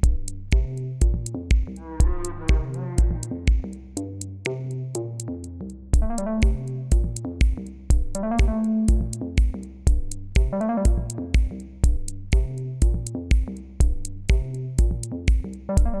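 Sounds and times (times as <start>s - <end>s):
electronic music with drum machine: 0.0s - 5.3s, 6.0s - 16.0s.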